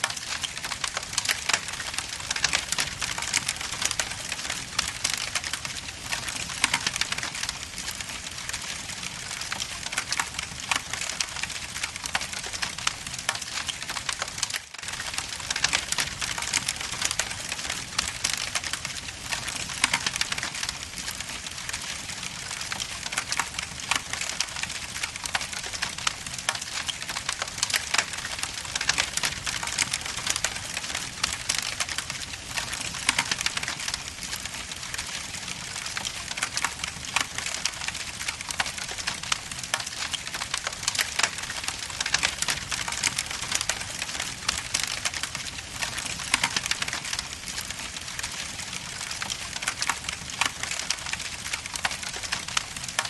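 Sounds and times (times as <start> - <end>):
burning logs crackling: 0.0 - 53.0.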